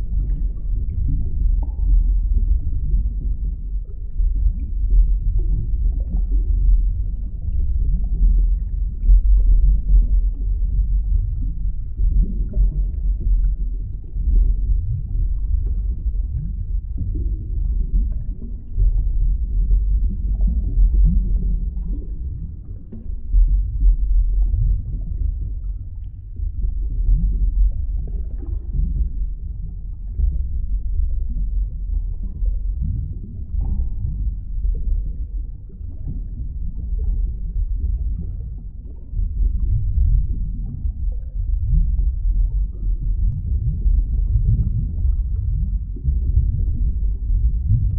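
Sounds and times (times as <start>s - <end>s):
deep muffled underwater rumble: 0.0s - 47.9s.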